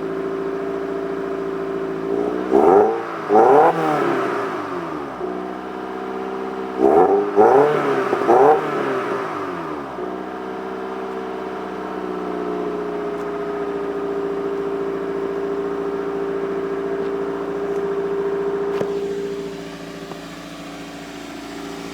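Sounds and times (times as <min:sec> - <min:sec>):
car engine at raised revs: 0:00.0 - 0:21.9.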